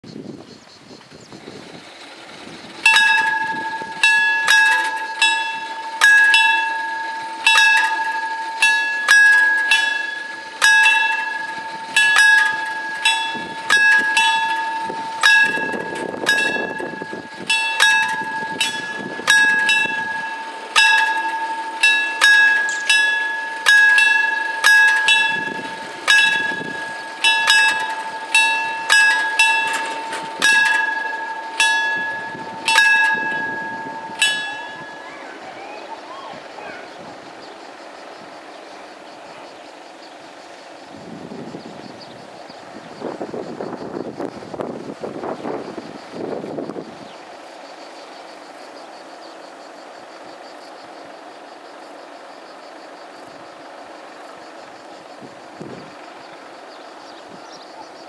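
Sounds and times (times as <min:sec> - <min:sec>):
level crossing bells ringing: 0:01.8 - 0:58.0.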